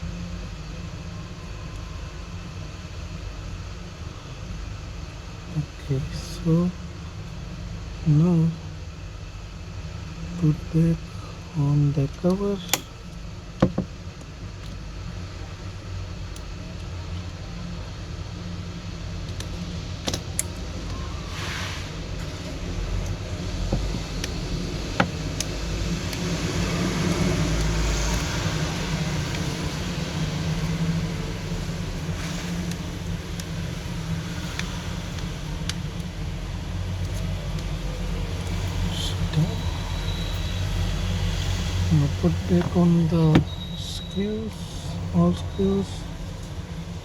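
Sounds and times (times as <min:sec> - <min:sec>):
low background rumble: 0:00.0 - 0:47.0.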